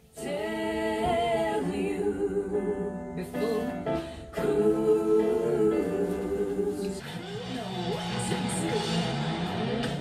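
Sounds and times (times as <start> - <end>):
backing voices and music: 0.1 - 10.0.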